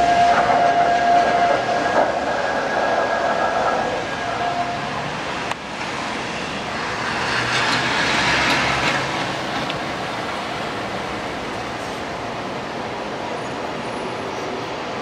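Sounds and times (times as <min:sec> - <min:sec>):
tyres hissing on wet road: 0:01.6 - 0:15.0.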